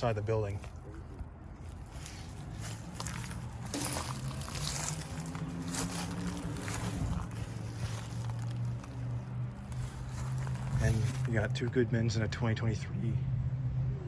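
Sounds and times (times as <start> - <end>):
handling noise: 0.0 - 11.6
footsteps: 0.0 - 11.8.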